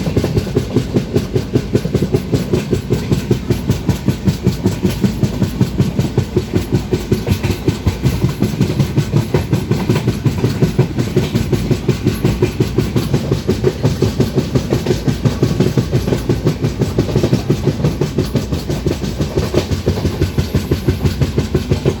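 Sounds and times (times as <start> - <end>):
low rumble of running train: 0.0 - 22.0
train wheels clickety-clack: 0.0 - 22.0.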